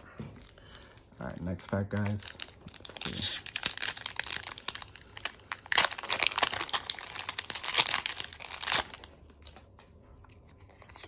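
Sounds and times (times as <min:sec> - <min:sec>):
foil wrapper crinkling and tearing: 0:00.7 - 0:09.8.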